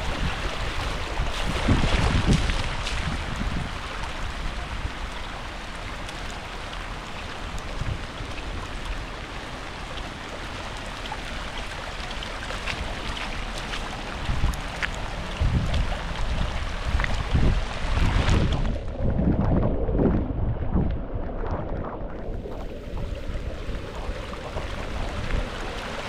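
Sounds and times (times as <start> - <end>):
wind buffeting microphone: 0.0 - 9.7, 12.6 - 26.0
steady rain falling: 0.0 - 18.4, 22.9 - 26.0.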